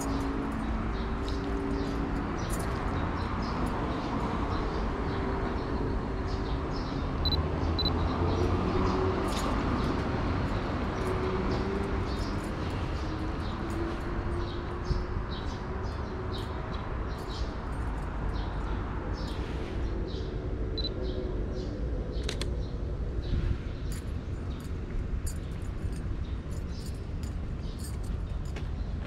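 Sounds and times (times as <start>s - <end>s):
distant traffic hum: 0.0s - 29.0s.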